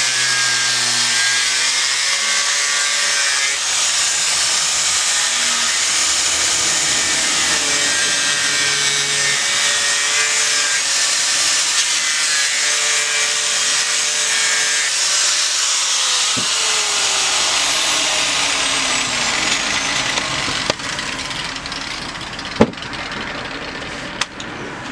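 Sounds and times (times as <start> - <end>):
angle grinder grinding wood: 0.0 - 24.2.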